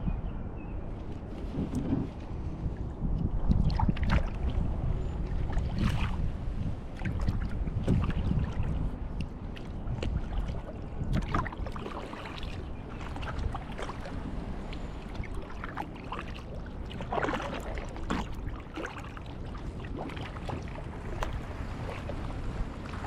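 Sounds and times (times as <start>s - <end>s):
paddle splashing in water: 3.5s - 4.6s, 5.2s - 23.0s.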